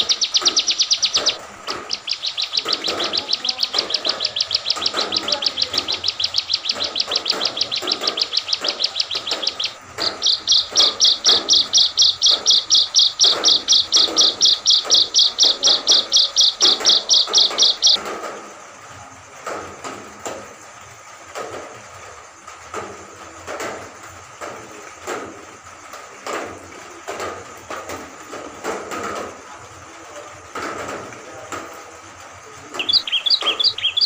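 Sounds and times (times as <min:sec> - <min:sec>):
songbird singing repeated notes: 0:00.0 - 0:18.9, 0:23.5 - 0:34.0.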